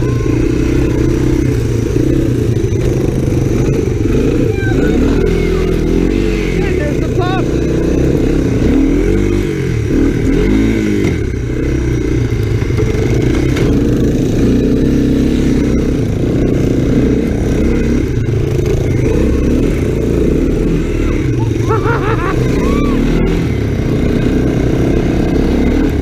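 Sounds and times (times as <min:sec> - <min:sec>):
three-wheeler engine revving: 0:00.0 - 0:26.0.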